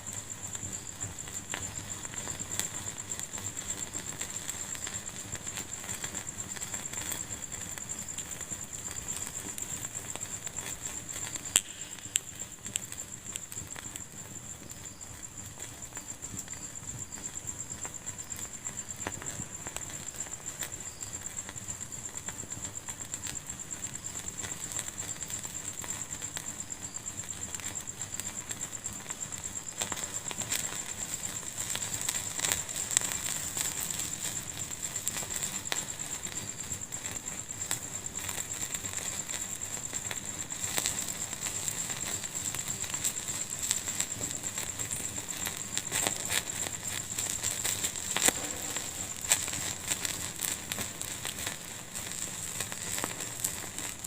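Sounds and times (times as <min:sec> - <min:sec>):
fire popping: 0:00.0 - 0:54.0
wood fire crackling: 0:00.0 - 0:54.0.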